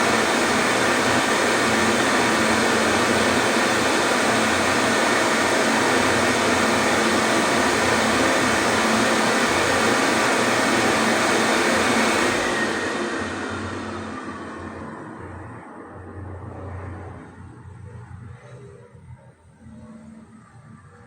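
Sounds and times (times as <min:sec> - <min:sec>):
hand dryer blowing: 0:00.0 - 0:17.1
fan motor winding down whine: 0:00.0 - 0:21.0.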